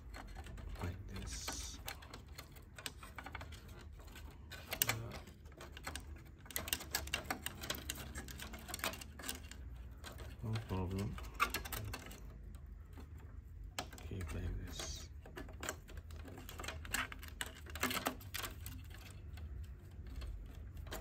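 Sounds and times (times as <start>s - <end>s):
clicks and taps of plastic parts: 0.0s - 21.0s.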